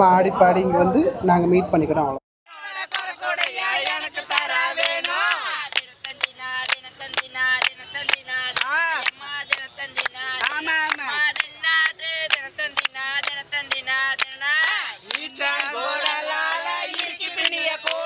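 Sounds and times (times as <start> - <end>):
voices singing: 2.5 - 18.0.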